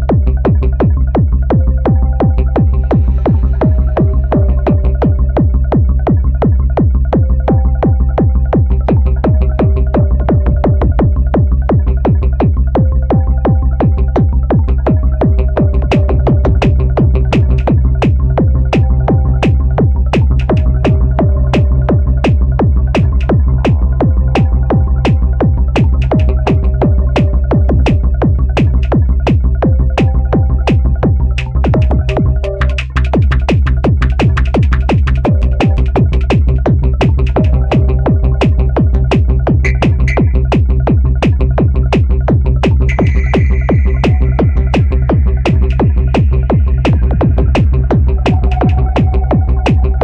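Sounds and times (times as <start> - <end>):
deep sustained bass: 0.0 - 50.0
drum machine beat: 0.0 - 50.0.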